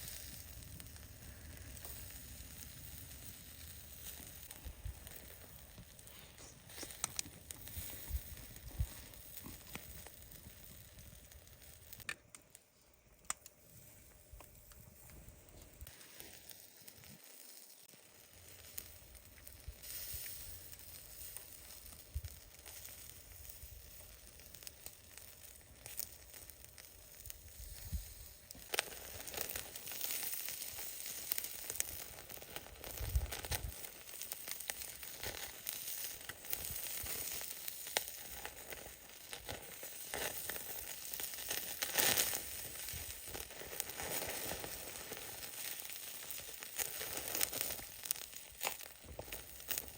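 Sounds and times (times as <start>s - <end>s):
crackles and pops: 0.0s - 49.9s
food sizzling over charcoal: 0.0s - 49.9s.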